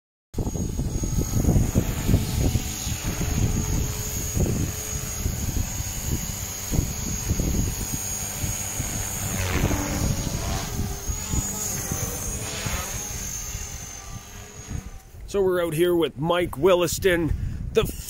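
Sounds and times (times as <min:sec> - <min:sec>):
model helicopter high whine: 0:00.4 - 0:16.1
low wind buffeting on microphone: 0:00.4 - 0:18.0.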